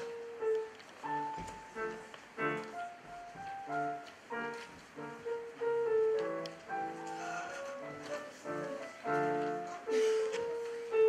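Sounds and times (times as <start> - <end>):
digital piano playing: 0.0 - 11.0.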